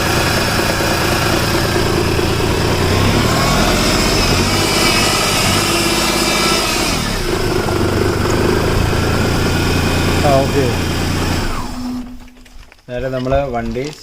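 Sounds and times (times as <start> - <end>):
small petrol engine running: 0.0 - 12.8.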